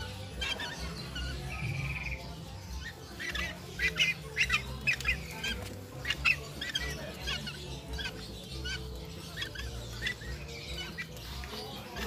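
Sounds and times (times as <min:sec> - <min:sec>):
bird buzzy trill: 0:00.0 - 0:12.0
high squeaky bird chirps: 0:00.0 - 0:12.0.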